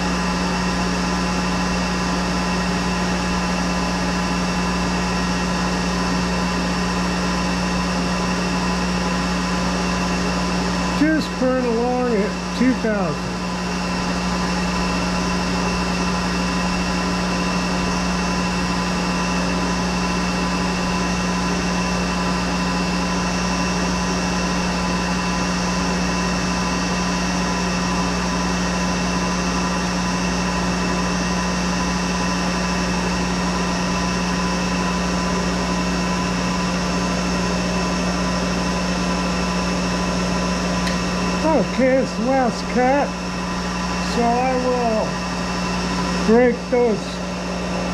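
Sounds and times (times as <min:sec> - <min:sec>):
lathe running with whining hum: 0:00.0 - 0:47.9.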